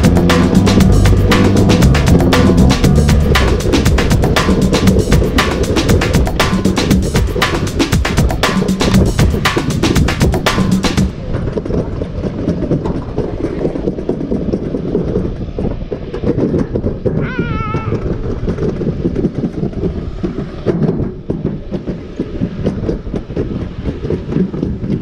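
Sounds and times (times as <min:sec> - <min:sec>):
sled clattering on metal trough: 0:00.0 - 0:25.0.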